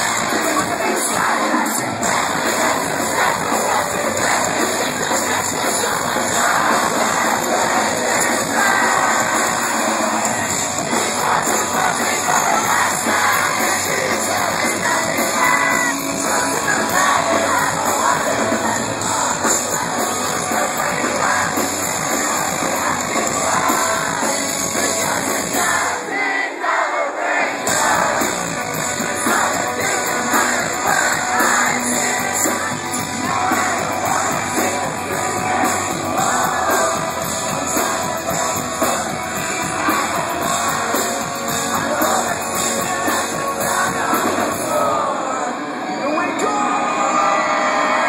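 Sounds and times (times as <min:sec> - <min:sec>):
live rock band with singer: 0:00.0 - 0:26.9, 0:27.5 - 0:48.0
crowd noise: 0:00.0 - 0:48.0.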